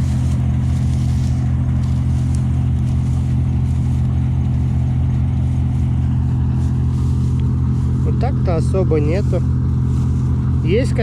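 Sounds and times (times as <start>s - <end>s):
combine harvester engine and machinery: 0.0s - 11.0s.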